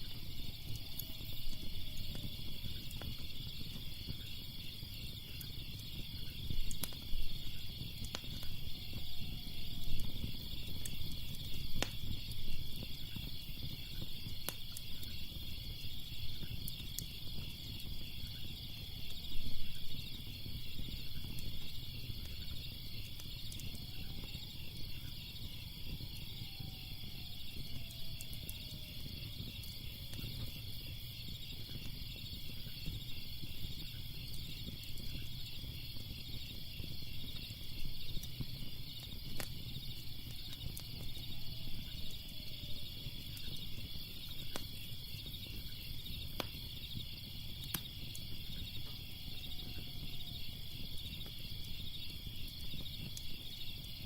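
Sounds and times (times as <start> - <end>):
crickets chirping: 0.0 - 54.0
wood fire crackling and popping: 0.0 - 54.0.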